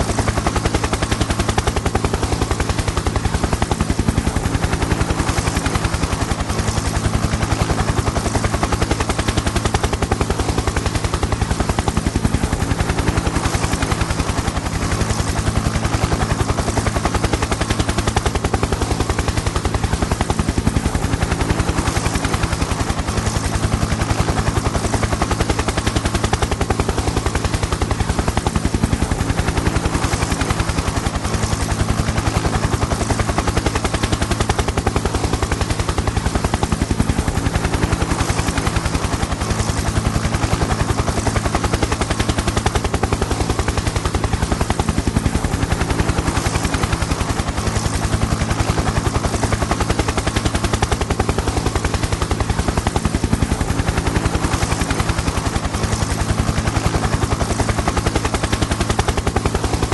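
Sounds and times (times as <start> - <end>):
helicopter engine hum: 0.0 - 59.9
helicopter rotor chopping: 0.0 - 59.9.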